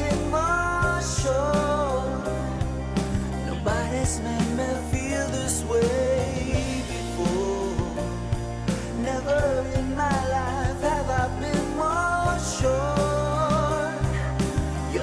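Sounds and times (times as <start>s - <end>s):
pop-rock song with singing: 0.0s - 15.0s.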